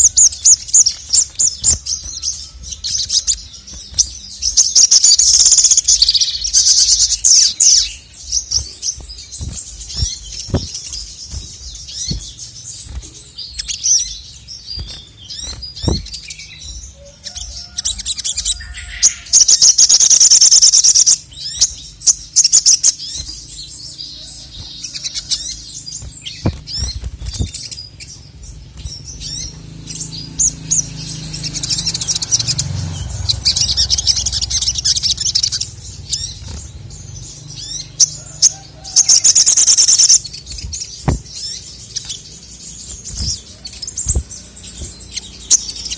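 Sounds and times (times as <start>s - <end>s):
bird chirps: 0.0s - 45.9s
bird rapid high trilling: 0.0s - 45.9s.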